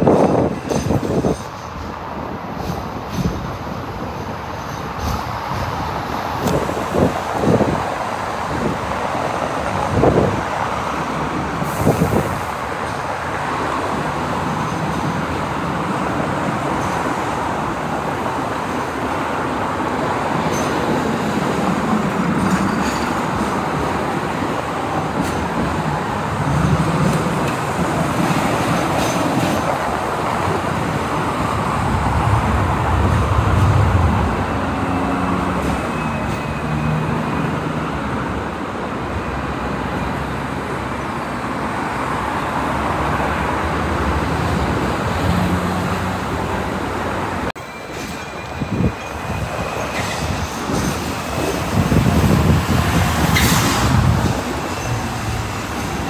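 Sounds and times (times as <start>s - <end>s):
heavy road traffic rumble: 0.0s - 56.0s
tram running on rails: 0.0s - 56.0s.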